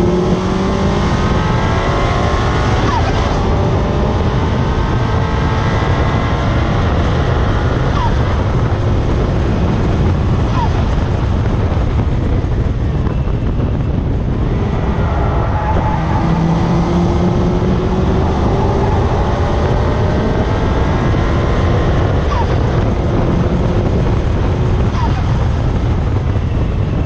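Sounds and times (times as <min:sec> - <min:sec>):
car engine: 0:00.0 - 0:27.0
wind noise: 0:00.0 - 0:27.0.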